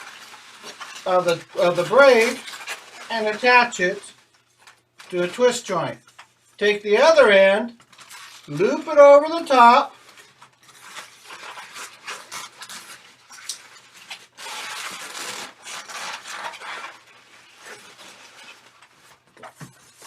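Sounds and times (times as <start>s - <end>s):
balloons rubbing and squeaking: 0.0s - 6.0s, 8.1s - 20.0s.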